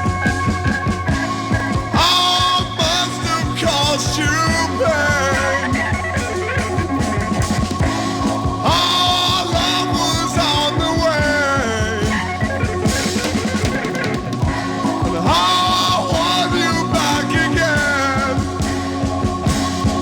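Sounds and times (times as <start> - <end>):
drum kit beat: 0.0 - 20.0
rock lead guitar melody: 0.0 - 20.0.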